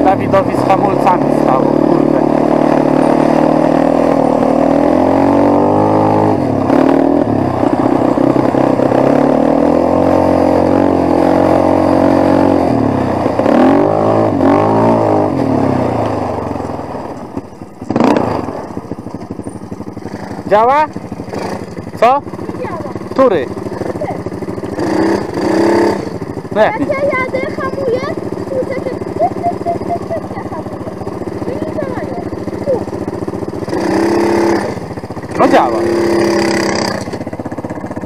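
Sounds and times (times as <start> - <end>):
quad engine revving: 0.0 - 38.0.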